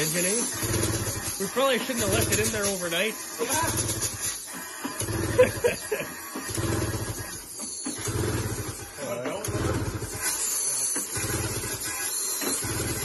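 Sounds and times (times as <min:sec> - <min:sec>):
snowmobile engine cranking: 0:00.0 - 0:13.0.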